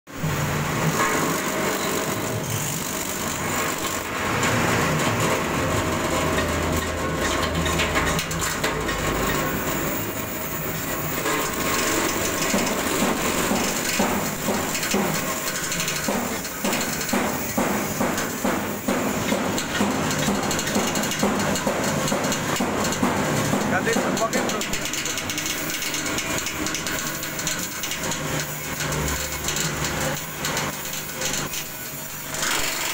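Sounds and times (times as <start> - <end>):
forage chopper cutting clatter: 0.2 - 32.9.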